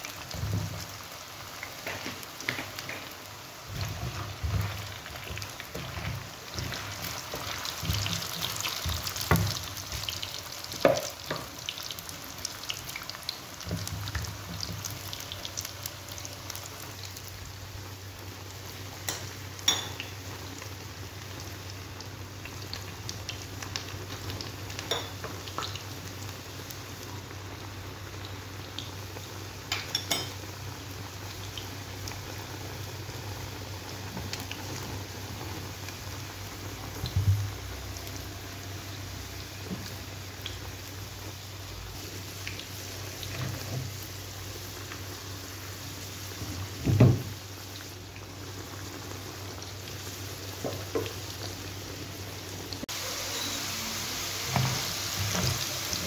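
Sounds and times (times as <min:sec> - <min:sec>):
food frying in hot oil: 0:00.0 - 0:56.0.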